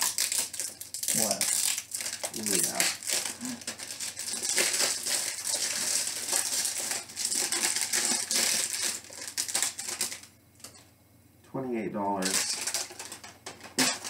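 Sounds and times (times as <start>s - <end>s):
plastic packaging crinkling: 0.0s - 10.8s, 12.2s - 14.0s.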